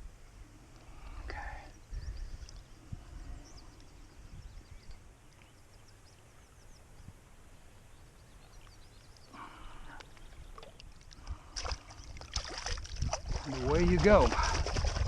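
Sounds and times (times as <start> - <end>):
wind rumble on microphone: 0.0 - 9.0, 9.8 - 15.0
small birds chirping: 0.7 - 14.2.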